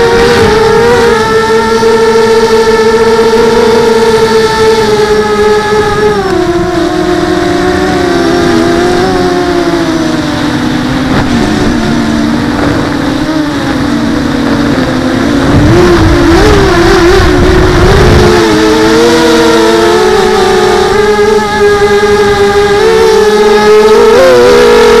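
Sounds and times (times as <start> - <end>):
quadcopter motors buzzing: 0.0 - 25.0
wind rumble on microphone: 0.0 - 25.0.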